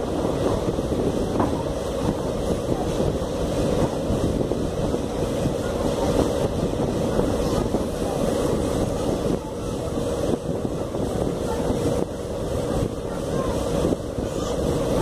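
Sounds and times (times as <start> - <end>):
train running on rails: 0.0 - 15.0
wind buffeting microphone: 0.0 - 15.0.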